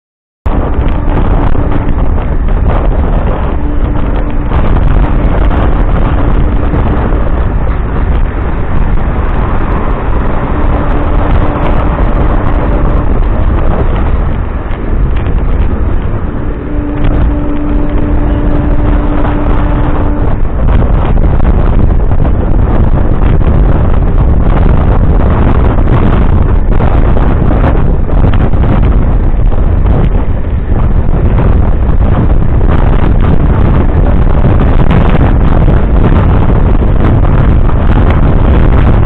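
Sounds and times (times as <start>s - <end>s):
wind buffeting microphone: 0.4s - 39.0s
train wheels rumbling on rails: 0.5s - 39.0s.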